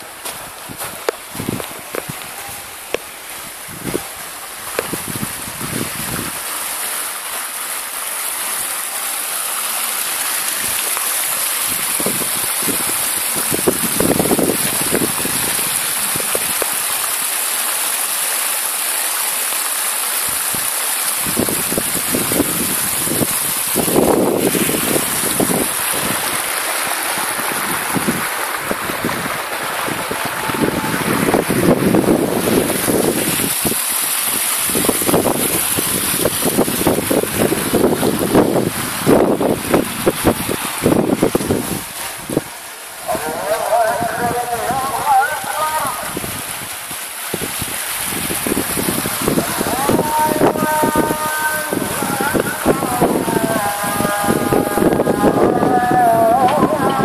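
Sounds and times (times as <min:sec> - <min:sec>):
water splashing down rocks: 0:00.0 - 0:57.0.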